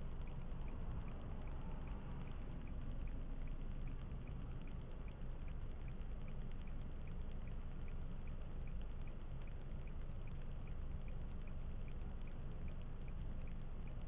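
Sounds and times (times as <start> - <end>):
car road and engine rumble: 0.0 - 14.0
light regular tick: 0.0 - 14.0.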